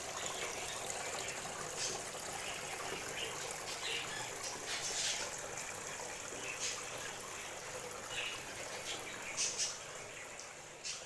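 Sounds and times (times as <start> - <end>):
small birds chirping: 0.0 - 5.5, 6.1 - 11.0.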